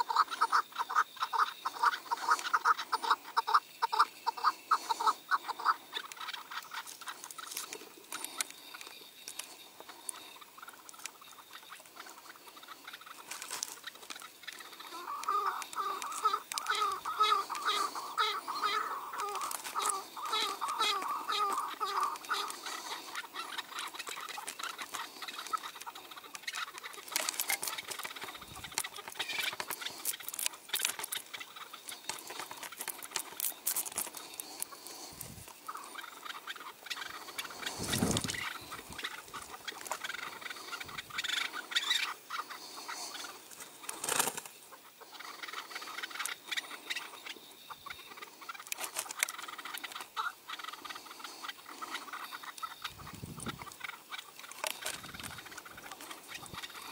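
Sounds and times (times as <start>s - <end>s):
partridge clucking call: 0.0s - 56.9s.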